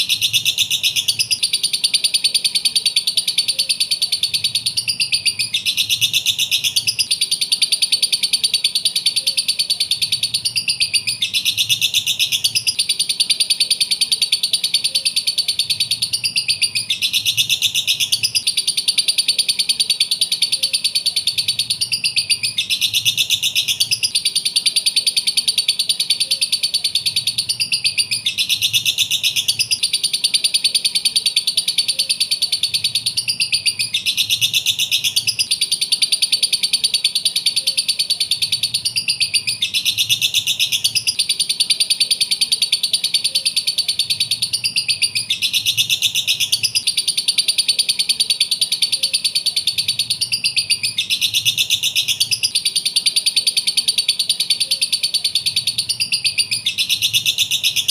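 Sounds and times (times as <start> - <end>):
bird chattering shrill chirps: 0.0 - 57.9.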